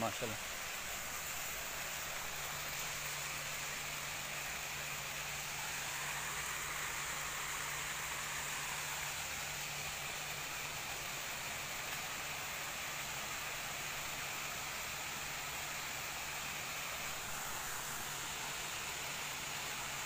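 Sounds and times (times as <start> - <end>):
water rushing down rocks: 0.0 - 20.0.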